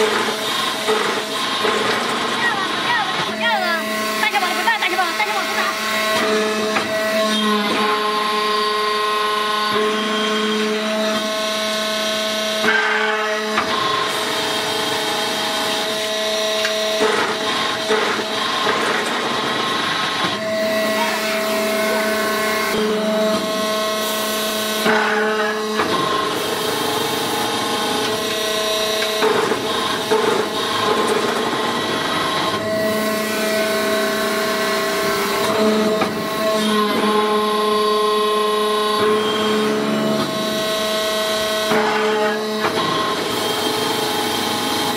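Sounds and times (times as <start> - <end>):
motor and pump whine: 0.0 - 44.9.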